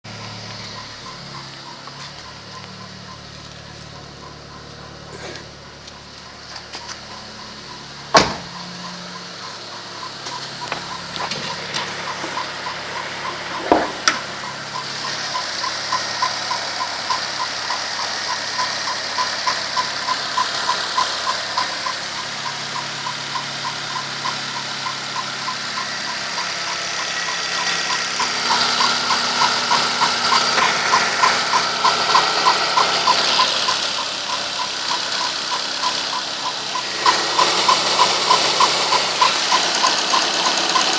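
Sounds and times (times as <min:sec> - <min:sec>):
car engine ticking: 0:00.0 - 0:40.9.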